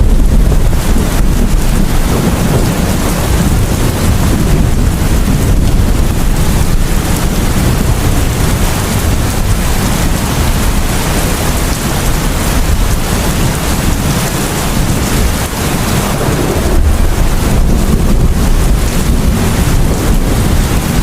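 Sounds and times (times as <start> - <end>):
low thunder rumbling: 0.0 - 21.0
rain falling: 0.0 - 21.0.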